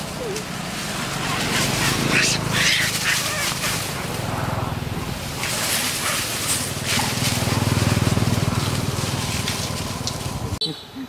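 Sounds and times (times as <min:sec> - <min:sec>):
dry leaves rustling underfoot: 0:00.0 - 0:04.3, 0:05.1 - 0:10.6.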